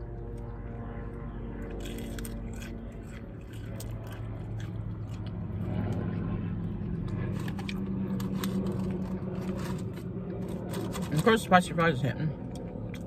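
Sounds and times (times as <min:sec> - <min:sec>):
chewing and crunching food: 0:00.0 - 0:13.0
steady low hum: 0:00.0 - 0:13.0.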